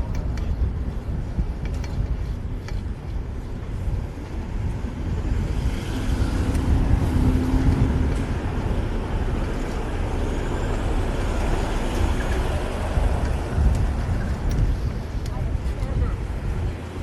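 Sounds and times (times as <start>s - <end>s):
city road traffic: 0.0s - 17.0s
steady vehicle hum: 0.0s - 17.0s
wind rumble on microphone: 0.0s - 17.0s.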